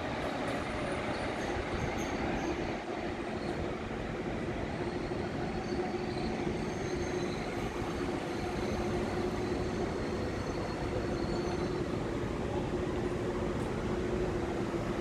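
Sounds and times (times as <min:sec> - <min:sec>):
train hum: 0:00.0 - 0:15.0
train wheels rumbling on rails: 0:00.0 - 0:15.0.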